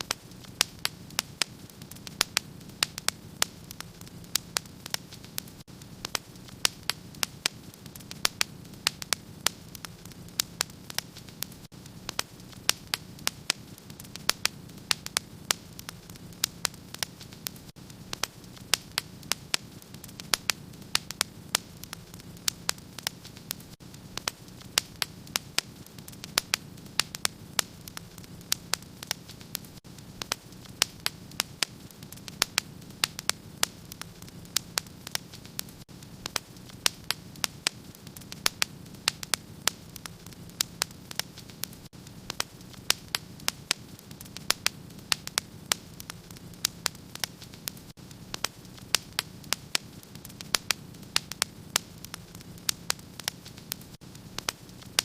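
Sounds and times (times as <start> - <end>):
fire crackling and popping: 0.0 - 55.0
hiss of flames: 0.0 - 55.0.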